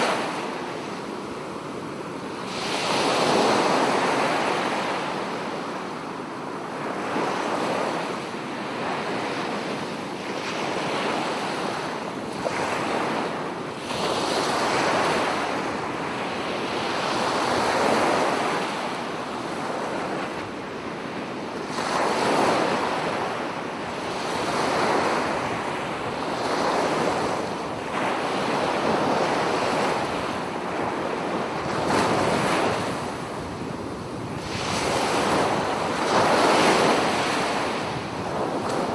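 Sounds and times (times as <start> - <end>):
ocean waves breaking: 0.0 - 5.8, 6.9 - 38.9.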